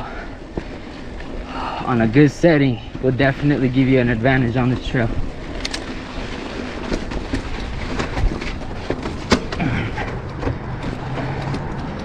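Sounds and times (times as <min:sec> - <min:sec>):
bike rattling and clicking: 0:00.0 - 0:12.0
bike tyres on rocky trail: 0:00.0 - 0:12.0.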